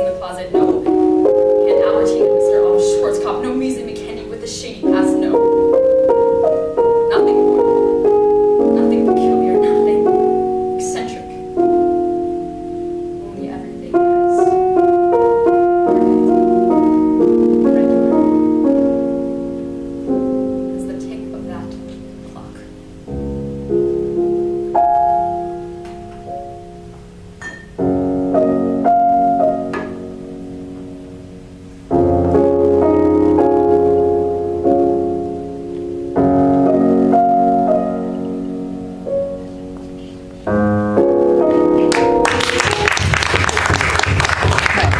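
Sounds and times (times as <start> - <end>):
piano chords: 0.0 - 44.9.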